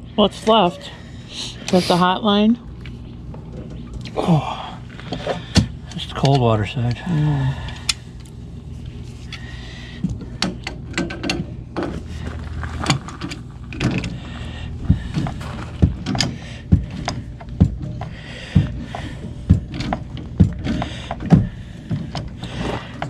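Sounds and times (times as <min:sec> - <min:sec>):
low hum: 0:02.4 - 0:23.0.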